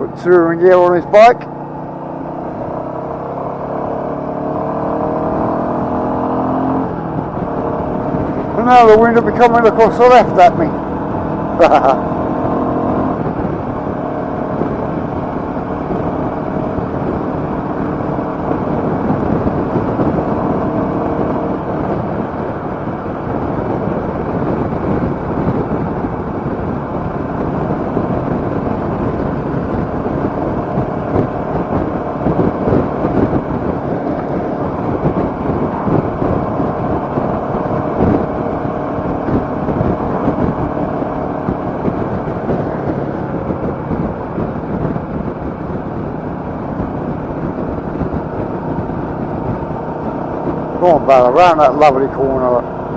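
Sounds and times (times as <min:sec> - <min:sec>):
motorcycle engine running: 0:00.0 - 0:52.9
wind buffeting microphone: 0:00.0 - 0:52.9.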